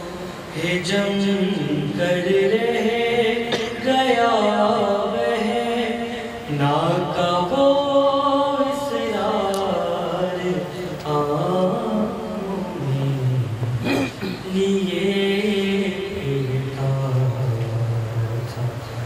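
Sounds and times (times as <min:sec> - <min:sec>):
man chanting unaccompanied: 0:00.0 - 0:19.0.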